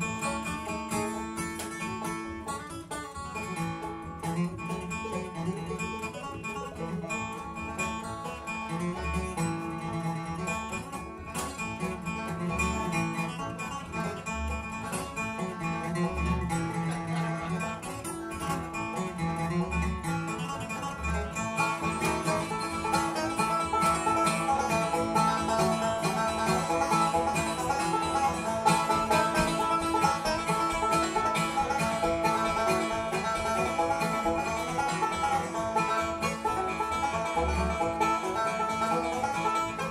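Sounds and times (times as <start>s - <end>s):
acoustic guitar: 0.0s - 39.9s
banjo: 0.0s - 39.9s
upright bass: 6.6s - 39.9s.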